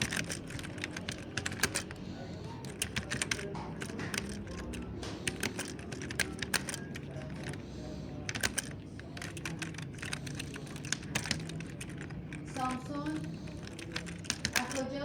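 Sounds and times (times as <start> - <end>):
mechanical keyboard clicking: 0.0 - 15.0.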